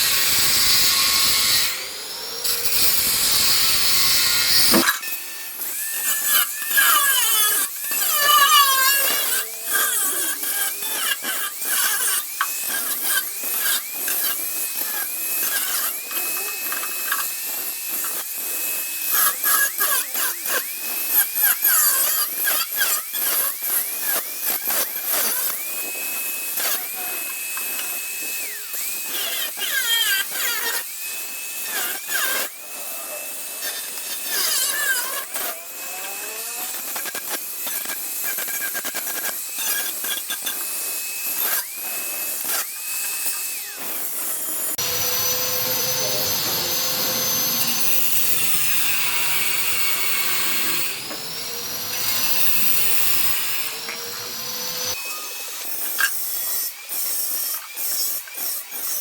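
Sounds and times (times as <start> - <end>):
power tool whining: 0.0 - 58.9.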